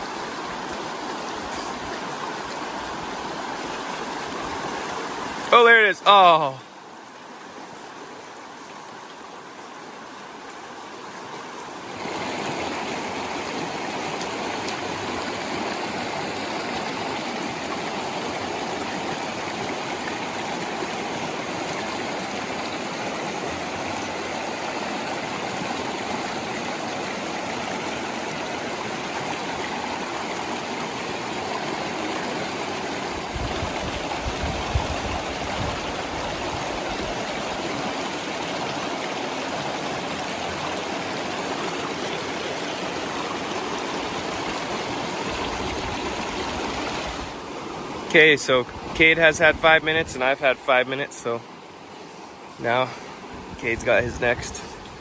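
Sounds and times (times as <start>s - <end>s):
creek water rushing over rocks: 0.0s - 55.0s.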